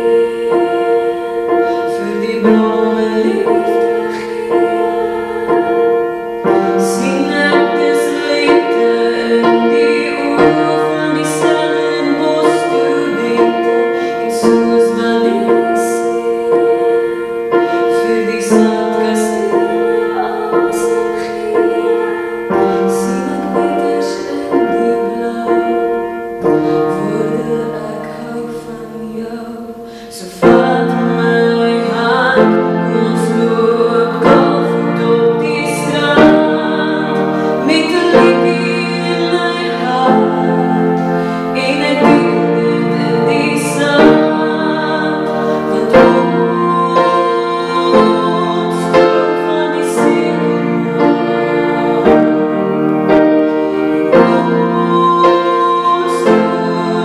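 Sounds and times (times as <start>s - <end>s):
piano accompaniment: 0.0s - 57.0s
woman singing: 0.0s - 57.0s.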